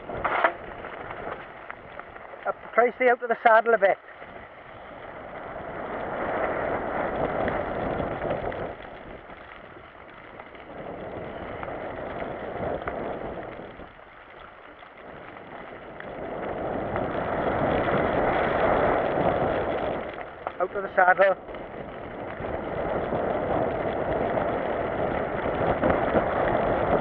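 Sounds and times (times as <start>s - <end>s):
bike rattle: 0.0s - 27.0s
bike tyres on rocky trail: 0.0s - 27.0s
wind on microphone: 0.0s - 27.0s.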